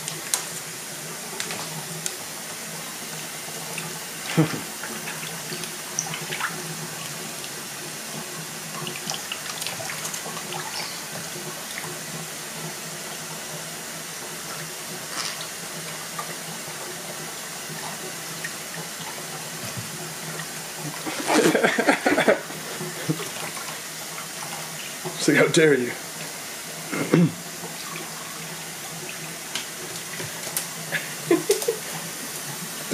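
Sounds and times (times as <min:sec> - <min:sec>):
water trickling into tub: 0:00.0 - 0:32.9.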